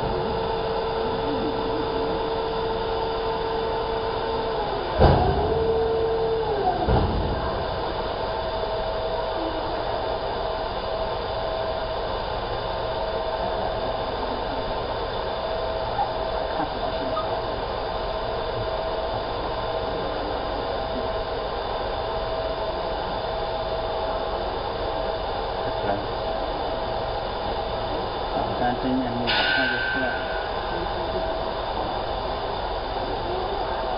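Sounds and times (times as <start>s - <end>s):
laser engraver whirring and humming: 0.0s - 33.9s.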